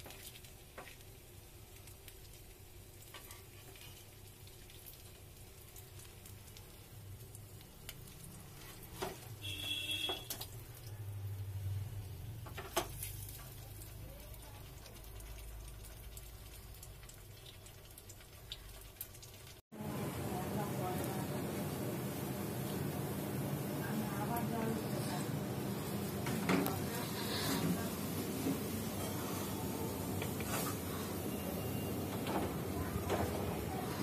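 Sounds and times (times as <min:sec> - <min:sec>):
bread frying in oil: 0:00.0 - 0:34.0.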